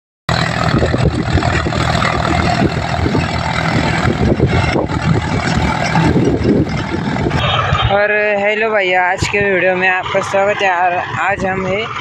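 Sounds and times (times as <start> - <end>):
tractor diesel engine running: 0.3 - 12.0.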